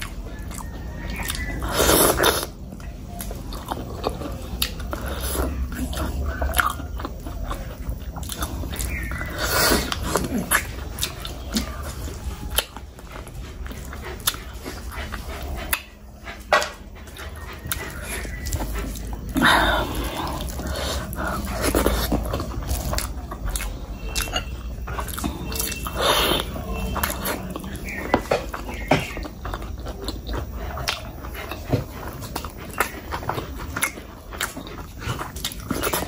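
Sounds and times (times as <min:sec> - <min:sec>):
fingers squelching food: 0:00.0 - 0:36.0
wet chewing and lip smacking: 0:00.0 - 0:36.0.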